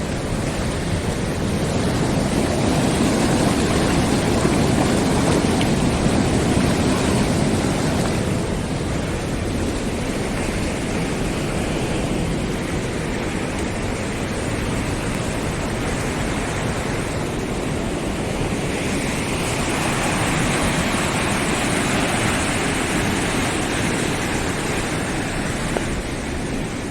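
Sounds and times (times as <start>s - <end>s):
flooded river rushing: 0.0s - 26.9s.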